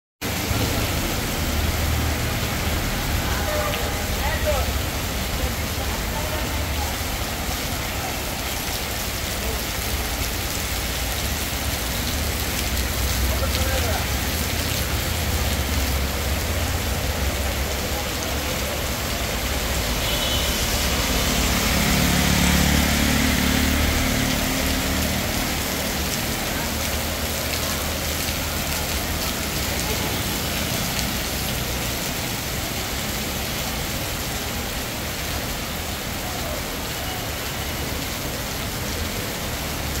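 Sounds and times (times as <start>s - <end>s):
heavy rain on pavement: 0.2s - 40.0s
vehicles passing on wet road: 0.2s - 40.0s.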